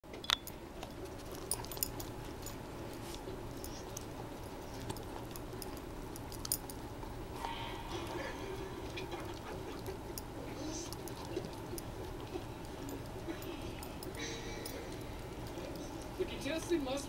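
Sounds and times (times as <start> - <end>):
steady low hum: 0.1 - 17.0
puppy chewing and smacking: 0.4 - 17.0.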